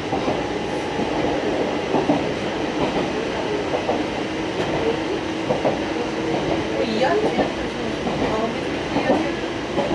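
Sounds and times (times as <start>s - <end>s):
train running rumble: 0.0s - 9.9s.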